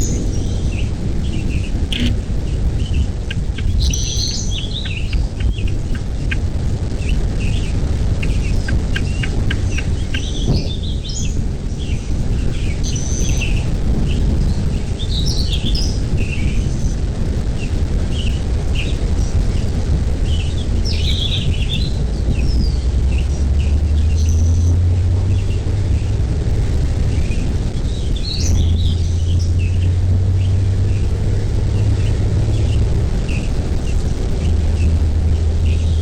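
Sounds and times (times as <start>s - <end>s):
birds chirping: 0.0s - 36.0s
steady low rumble: 0.0s - 36.0s.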